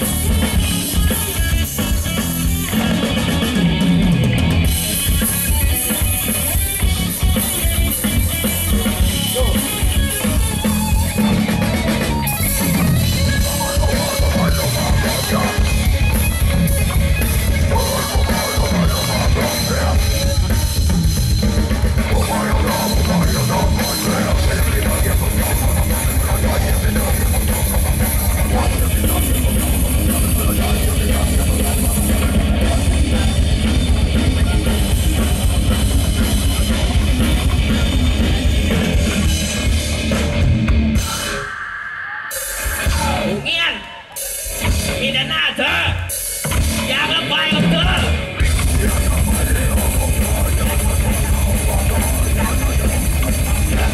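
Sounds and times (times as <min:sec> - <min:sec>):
rapid bass drum strokes: 0:00.0 - 0:41.4, 0:42.5 - 0:43.5, 0:46.1 - 0:53.9
death metal band playing: 0:00.0 - 0:53.9.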